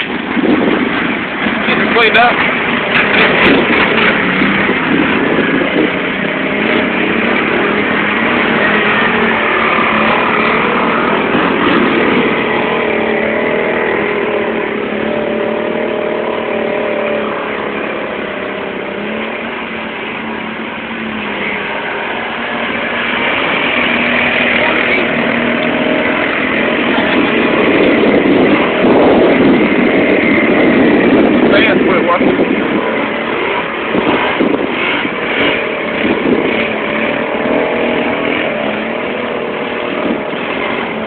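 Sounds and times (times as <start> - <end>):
atv engines revving: 0.0 - 41.0
quads churning through mud: 0.0 - 41.0.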